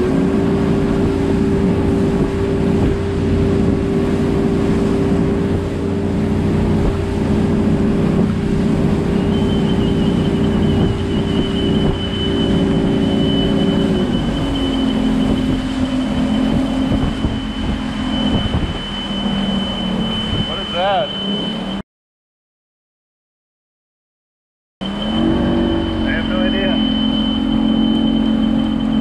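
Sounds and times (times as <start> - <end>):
boat engine running: 0.0 - 21.8, 24.8 - 29.0
thin high whine: 0.0 - 21.8, 24.8 - 29.0
water noise: 0.0 - 21.8, 24.8 - 29.0
wind: 0.0 - 21.8, 24.8 - 29.0.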